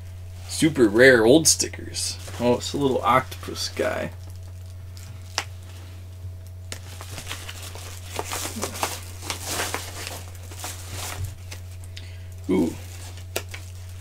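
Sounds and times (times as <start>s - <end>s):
steady low hum: 0.0s - 14.0s
paper packaging crinkling: 0.2s - 6.1s, 6.7s - 14.0s.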